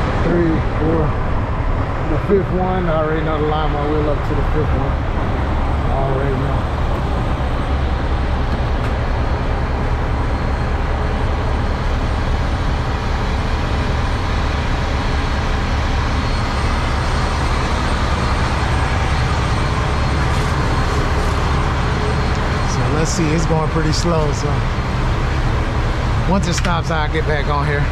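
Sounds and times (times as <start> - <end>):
diesel truck engine rumbling: 0.0 - 27.9.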